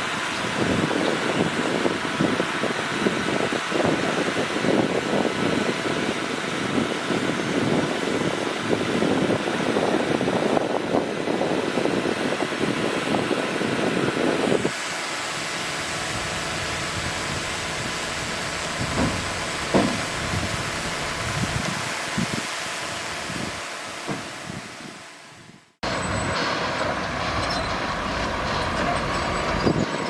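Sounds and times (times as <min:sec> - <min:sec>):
bulldozer engine running: 0:00.0 - 0:30.0.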